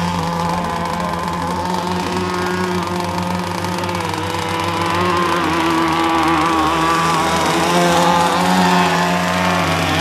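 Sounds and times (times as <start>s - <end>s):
electric motors whining: 0.0s - 10.0s.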